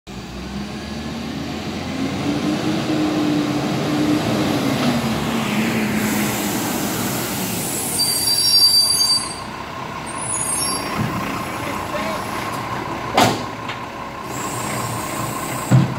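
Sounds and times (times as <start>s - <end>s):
garbage truck diesel engine: 0.1s - 15.9s
brakes squealing: 1.7s - 15.9s.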